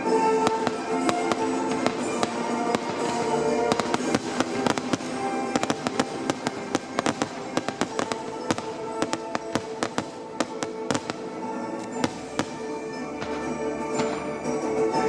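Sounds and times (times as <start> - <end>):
fireworks crackling and popping: 0.0 - 15.0
music with held tones: 0.0 - 15.0.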